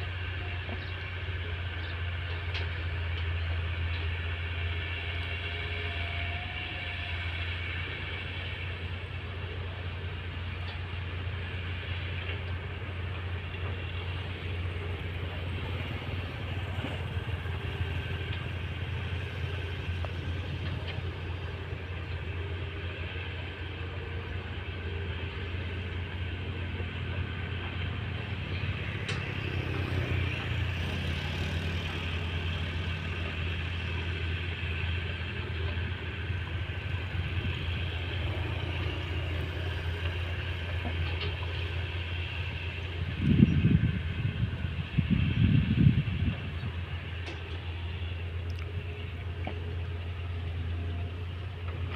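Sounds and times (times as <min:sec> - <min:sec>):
heavy diesel engines droning: 0:00.0 - 0:51.9.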